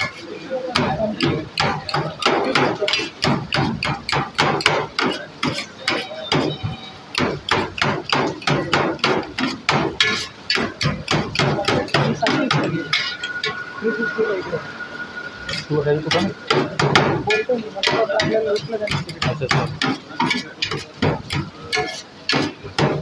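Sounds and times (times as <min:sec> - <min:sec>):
metal spatula clanking on tray: 0:00.8 - 0:13.6, 0:15.5 - 0:23.0.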